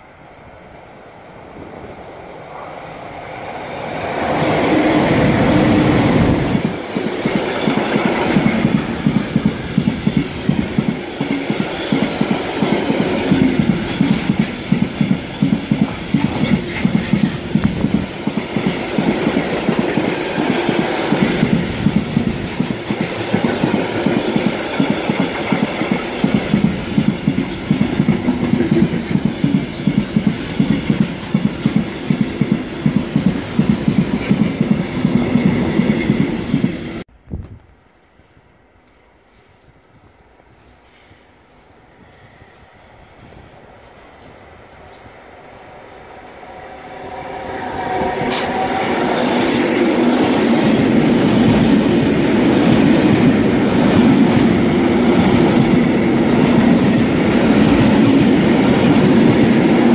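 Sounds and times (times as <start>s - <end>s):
electric locomotive passing: 0.0s - 37.1s, 38.0s - 59.9s.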